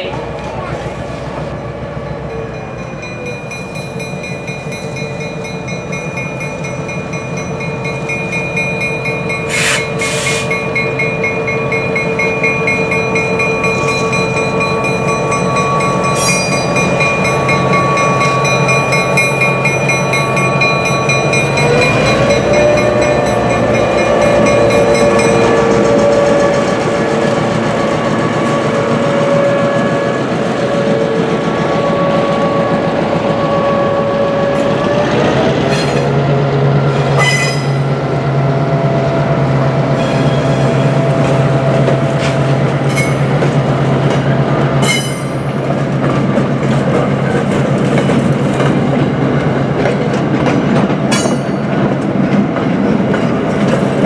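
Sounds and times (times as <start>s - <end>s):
wheels squealing on rails: 0.0s - 36.2s, 36.8s - 38.1s, 39.9s - 43.7s, 44.8s - 49.0s
diesel locomotive engine: 0.0s - 54.0s
train wheel noise: 0.0s - 54.0s.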